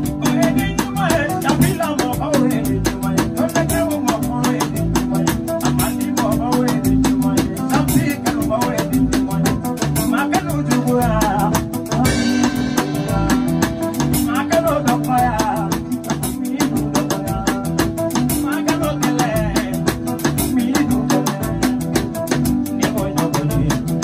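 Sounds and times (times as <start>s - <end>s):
man singing into a microphone: 0.0s - 24.0s
steady beat: 0.0s - 24.0s.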